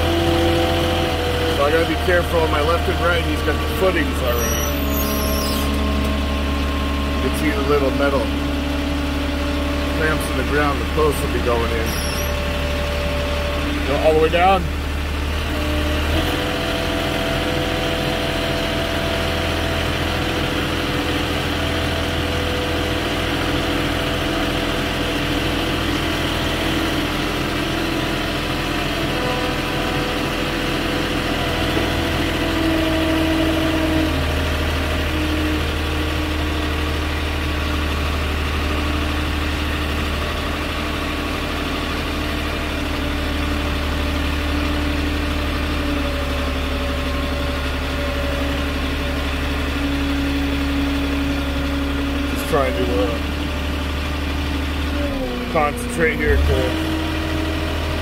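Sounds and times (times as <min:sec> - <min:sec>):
forklift engine running: 0:00.0 - 0:58.0.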